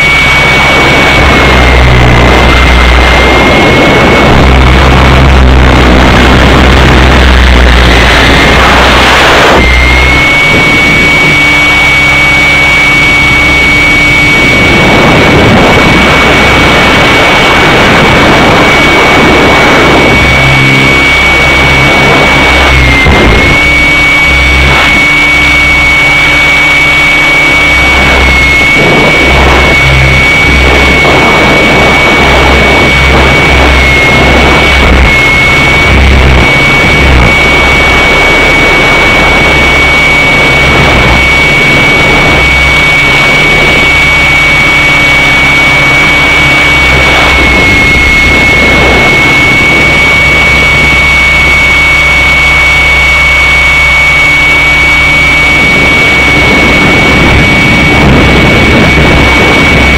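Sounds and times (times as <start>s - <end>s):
model helicopter high whine: 0.0s - 59.9s
rotor wash and wind: 0.0s - 59.9s.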